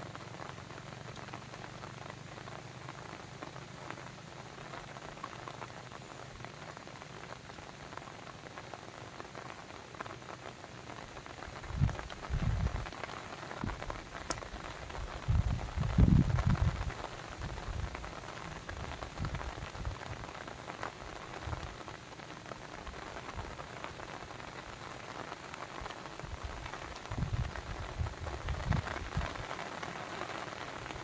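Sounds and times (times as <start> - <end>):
water patter and trickle: 0.0 - 31.0.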